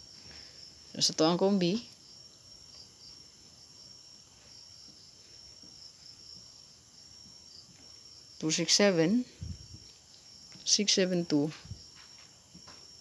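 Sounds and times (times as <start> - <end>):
faint high-pitched insect chirring: 0.0 - 13.0.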